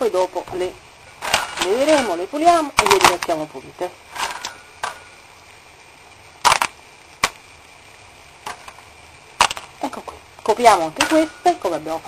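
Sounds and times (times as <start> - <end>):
low steady background: 0.0 - 12.0.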